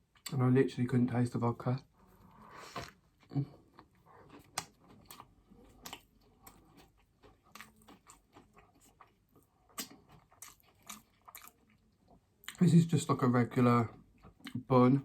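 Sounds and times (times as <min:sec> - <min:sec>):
close chewing of food: 0:01.8 - 0:15.0.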